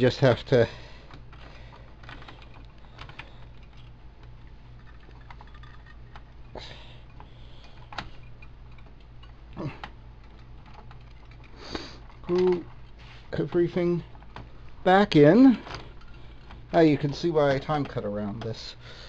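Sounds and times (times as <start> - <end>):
computer parts clicking and knocking: 0.0 - 18.8
steady low hum: 0.0 - 19.0.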